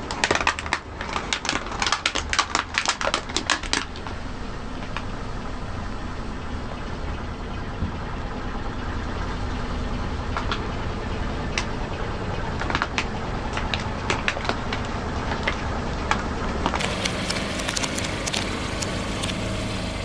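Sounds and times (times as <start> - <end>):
crunching under a tyre: 0.0 - 6.2, 9.8 - 20.0
car engine running: 0.0 - 20.0.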